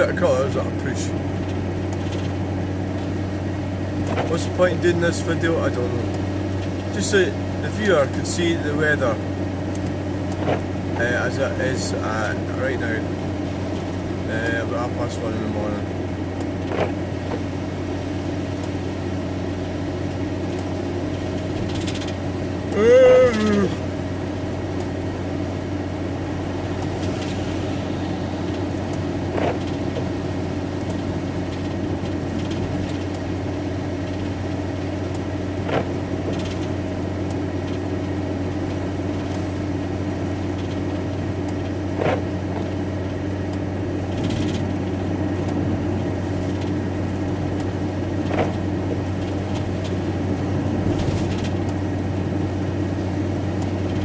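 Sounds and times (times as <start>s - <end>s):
lorry engine and road noise: 0.0s - 54.0s.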